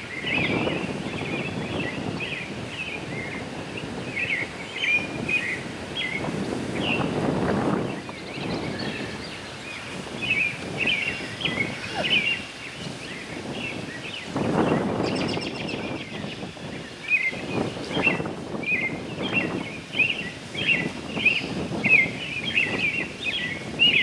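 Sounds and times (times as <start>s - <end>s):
songbirds chirping: 0.0s - 24.0s
wind rumble on microphone: 0.0s - 24.0s.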